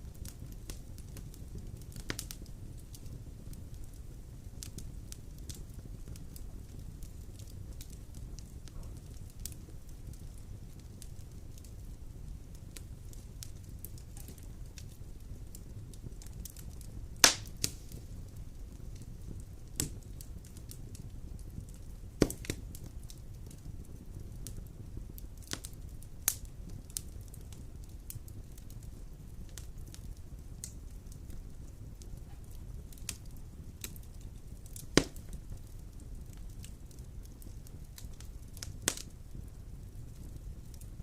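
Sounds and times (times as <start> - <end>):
loud sharp pops of fire: 0.0 - 41.0
wood fire crackling: 0.0 - 41.0.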